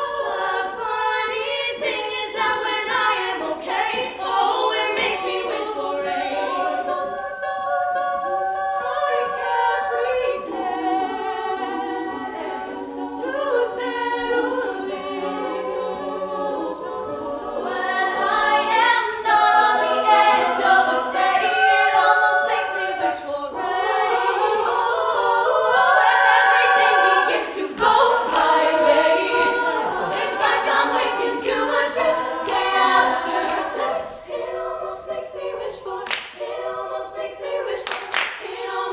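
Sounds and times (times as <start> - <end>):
women singing a cappella harmony: 0.0 - 38.9.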